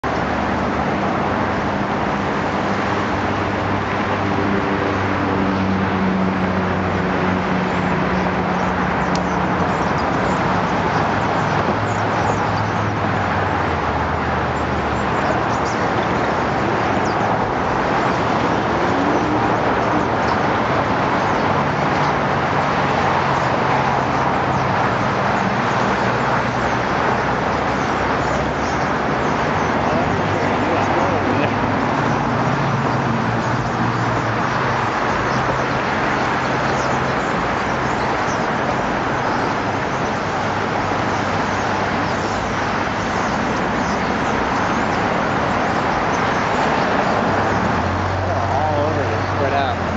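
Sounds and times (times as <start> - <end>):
city traffic noise: 0.0 - 49.9
passing vehicle engines humming: 0.0 - 49.9.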